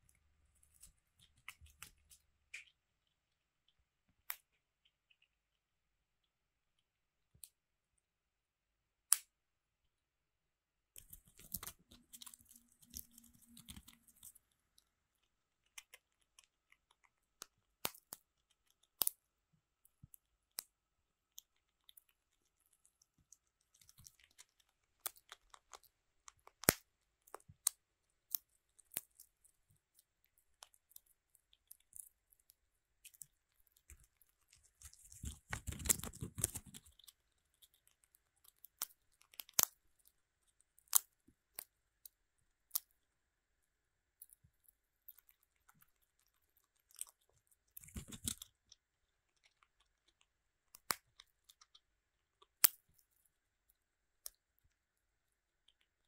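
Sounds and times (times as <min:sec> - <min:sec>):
squirrel gnawing pine cone: 0:00.0 - 0:05.5, 0:11.0 - 0:43.0, 0:44.2 - 0:53.4.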